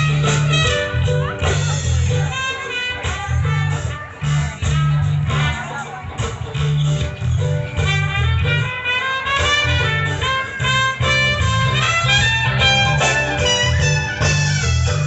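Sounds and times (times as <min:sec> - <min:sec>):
trumpet solo: 0:00.0 - 0:05.9, 0:07.6 - 0:15.0
reggae band playing: 0:00.0 - 0:15.0.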